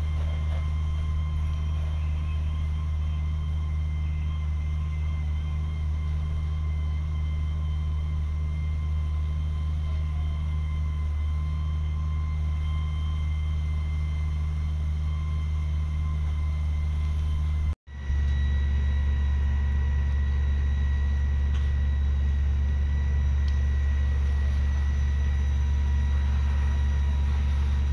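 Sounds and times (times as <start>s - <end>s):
fire engine pump rumbling: 0.0s - 27.9s
thin steady whine: 0.0s - 27.9s.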